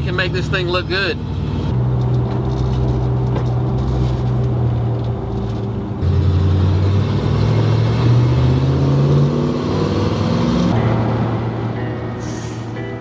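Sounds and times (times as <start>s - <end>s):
truck engine inside cab: 0.0s - 13.0s.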